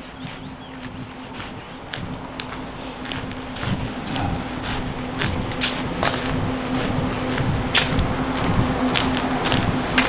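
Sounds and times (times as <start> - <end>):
footsteps on pavement: 0.0 - 10.0
low hum: 0.0 - 10.0
wind rumble on microphone: 0.0 - 10.0.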